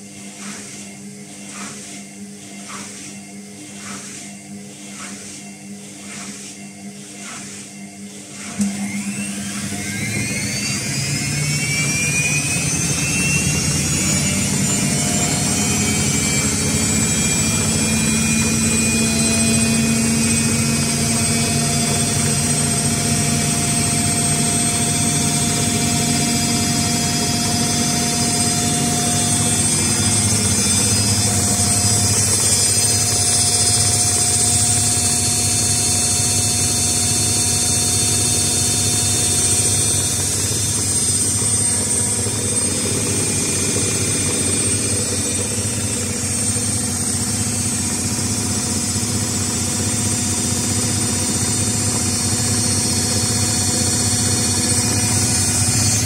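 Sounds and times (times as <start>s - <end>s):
steady low drone: 0.0s - 56.0s
washing machine spin whine: 0.0s - 56.0s.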